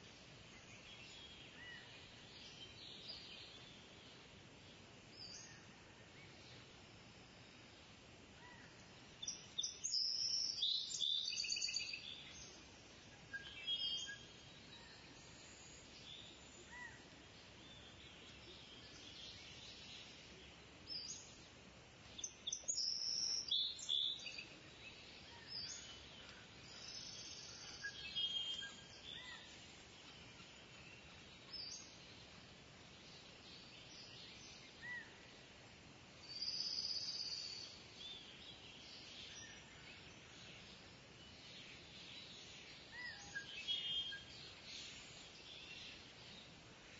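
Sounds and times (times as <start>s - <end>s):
faint steady hiss: 0.0s - 46.9s
birds chirping: 8.4s - 35.5s, 36.2s - 46.9s.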